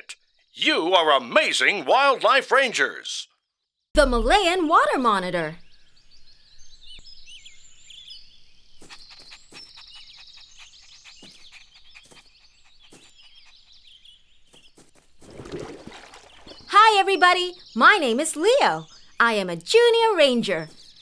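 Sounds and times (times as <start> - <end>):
birds chirping and trilling: 0.0 - 21.0.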